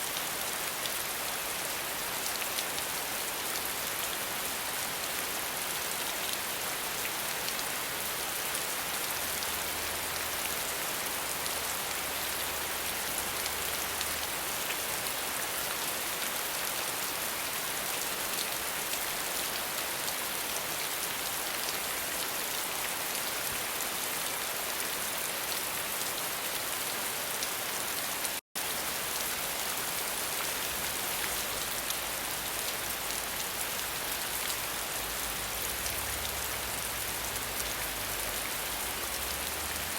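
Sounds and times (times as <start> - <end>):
rain hissing on surfaces: 0.0 - 39.9.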